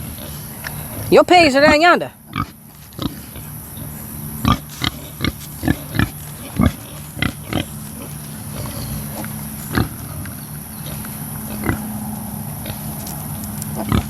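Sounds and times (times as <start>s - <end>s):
pigs grunting: 0.0s - 14.0s
steady low hum: 0.0s - 14.0s.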